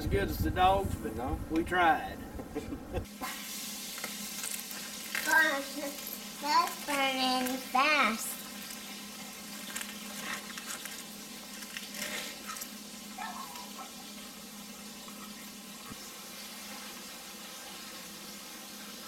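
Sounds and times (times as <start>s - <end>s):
meat sizzling in a pan: 3.0s - 19.0s.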